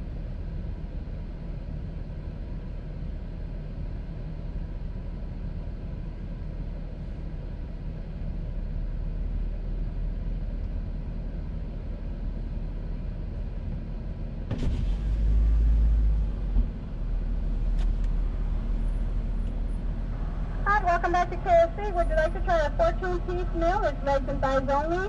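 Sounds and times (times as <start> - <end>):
car engine rumble from inside: 0.0 - 25.0.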